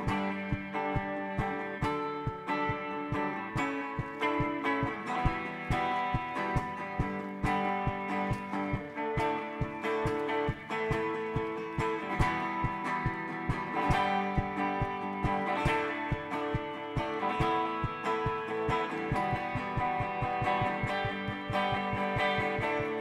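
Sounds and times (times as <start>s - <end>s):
electric guitar chords: 0.0s - 23.0s.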